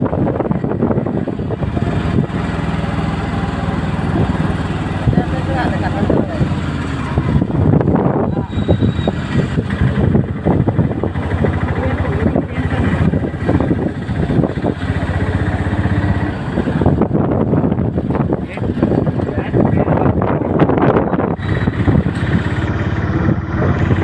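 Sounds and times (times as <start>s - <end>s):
busy street traffic: 0.0s - 24.0s
car engines running: 0.0s - 24.0s
motorcycle engine running: 0.0s - 24.0s.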